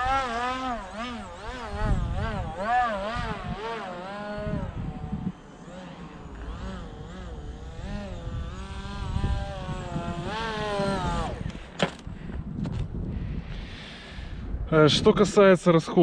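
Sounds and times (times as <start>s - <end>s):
model plane motor whining: 0.0s - 12.9s.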